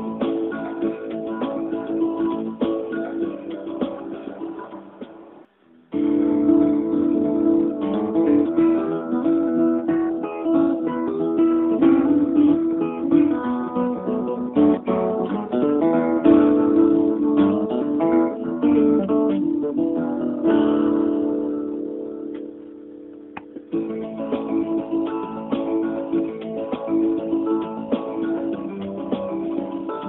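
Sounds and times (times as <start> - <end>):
acoustic guitar music: 0.0 - 30.0.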